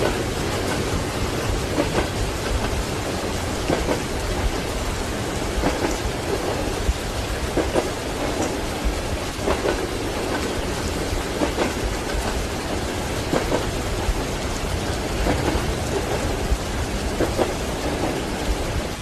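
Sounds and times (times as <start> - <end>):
rain hiss: 0.0 - 19.0
train wheels clacking on rails: 0.0 - 19.0.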